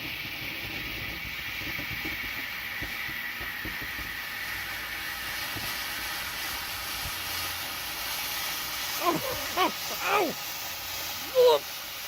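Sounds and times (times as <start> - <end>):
smoke firework hissing: 0.0 - 12.0.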